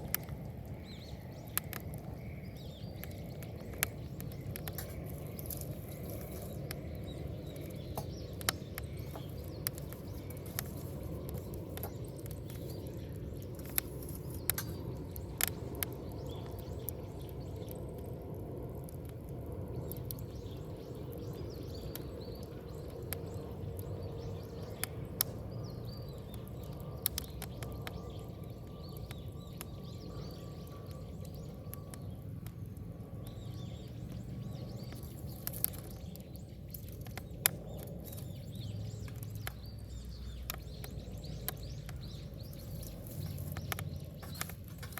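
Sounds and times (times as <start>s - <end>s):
burning wood crackling and popping: 0.0s - 44.9s
low rush of flames: 0.0s - 44.9s.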